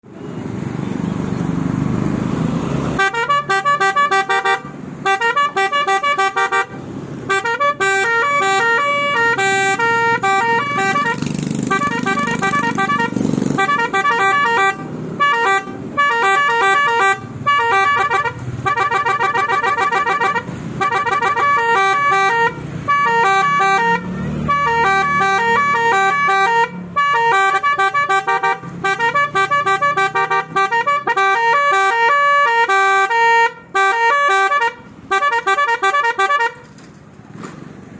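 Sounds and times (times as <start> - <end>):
musical horn trumpets tooting: 3.0 - 36.8.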